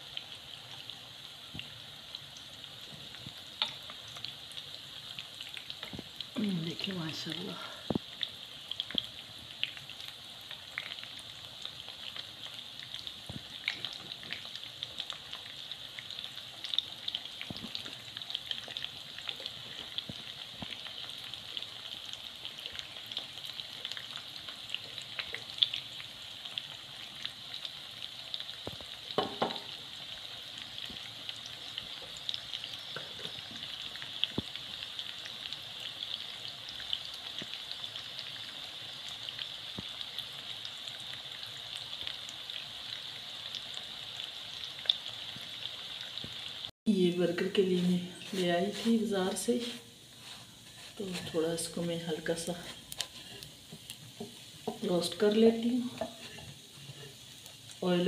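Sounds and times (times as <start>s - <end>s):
patties sizzling in oil: 0.0s - 58.0s.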